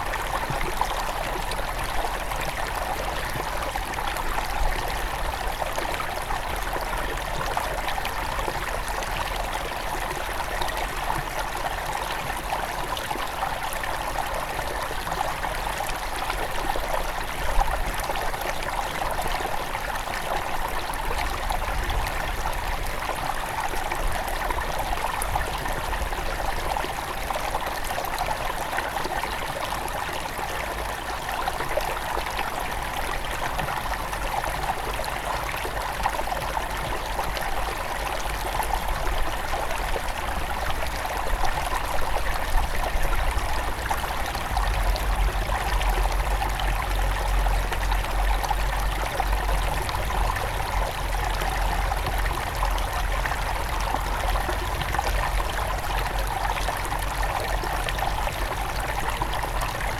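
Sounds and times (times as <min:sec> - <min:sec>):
stream flowing and trickling: 0:00.0 - 0:59.9.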